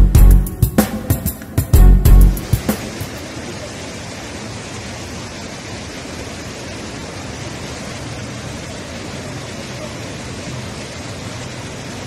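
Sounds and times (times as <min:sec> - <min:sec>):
floodwater rushing down river: 0:00.5 - 0:12.0.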